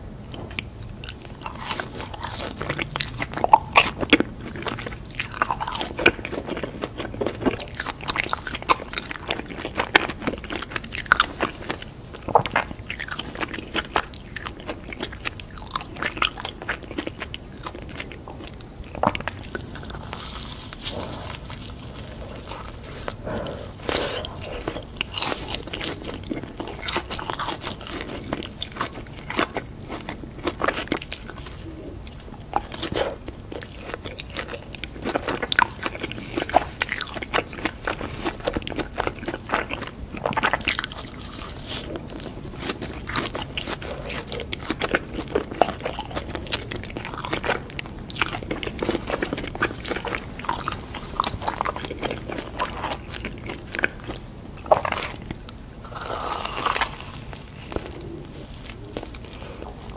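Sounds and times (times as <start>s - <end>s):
chewing: 0.3s - 59.9s
crunchy food biting: 0.4s - 59.9s.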